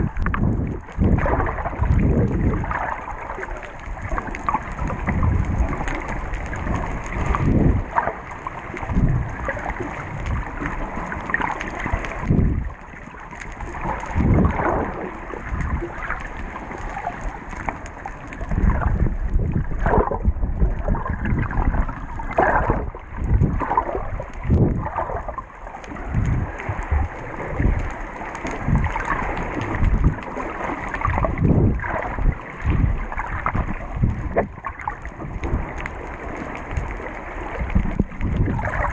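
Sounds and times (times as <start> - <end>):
low thumps and gurgles: 0.0 - 38.9
underwater water rush: 0.0 - 38.9.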